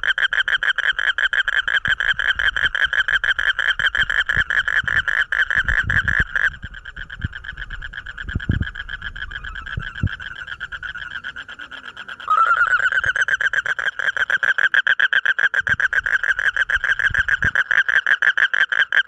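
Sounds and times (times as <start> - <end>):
faint frog trilling: 0.0 - 19.0
frog trilling: 0.0 - 19.0.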